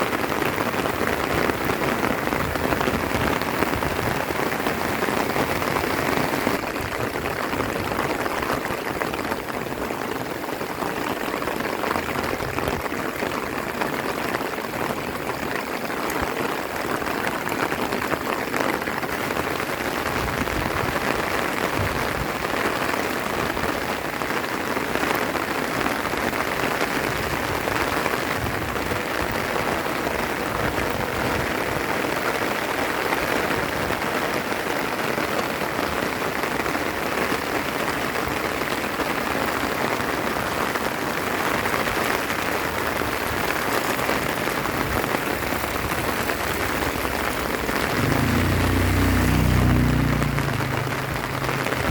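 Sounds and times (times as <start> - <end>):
heavy rain on leaves and ground: 0.0 - 51.9.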